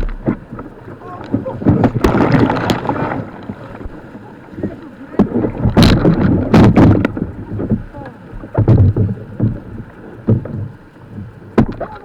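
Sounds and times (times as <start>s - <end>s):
whitewater churning and splashing: 0.0s - 12.0s.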